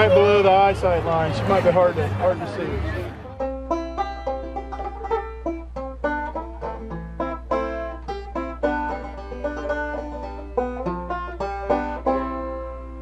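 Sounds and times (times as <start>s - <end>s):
plucked string instrument tune: 0.0s - 13.0s.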